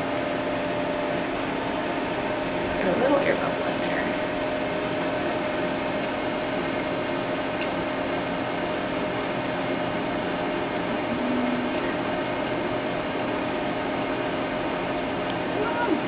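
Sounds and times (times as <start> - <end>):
machine mechanical hum: 0.0 - 16.0.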